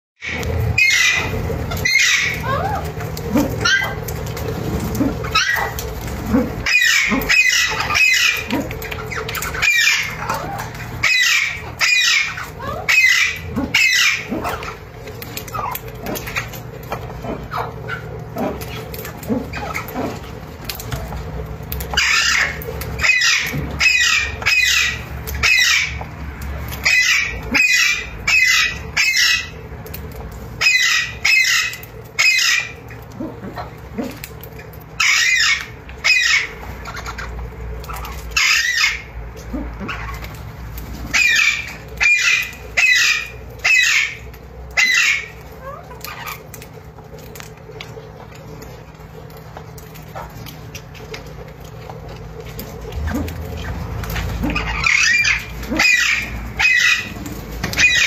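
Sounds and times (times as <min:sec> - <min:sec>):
low background rumble: 0:00.2 - 0:58.0
parakeets calling: 0:00.2 - 0:58.0.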